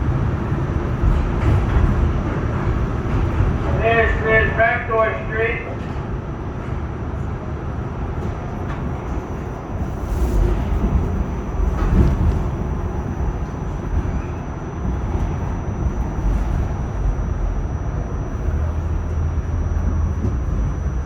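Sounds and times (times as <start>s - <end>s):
subway car wheels rumbling: 0.0s - 21.0s.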